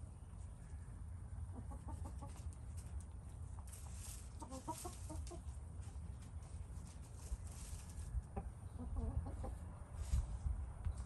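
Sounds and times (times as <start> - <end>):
chickens clucking: 1.3 - 11.0.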